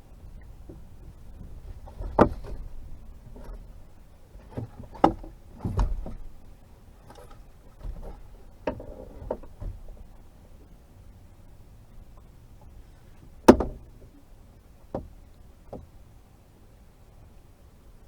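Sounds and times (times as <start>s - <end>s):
gear knocking in a boat: 0.0s - 16.1s
low rumbling handling noise: 0.0s - 17.3s.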